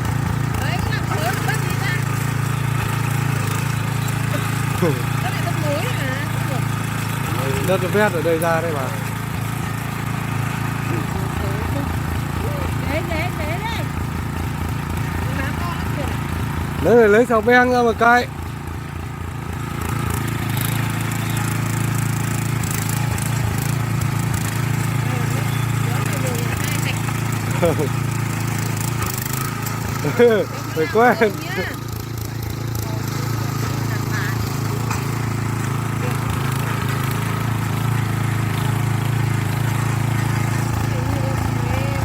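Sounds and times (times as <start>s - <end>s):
tiller petrol engine running: 0.0s - 42.0s.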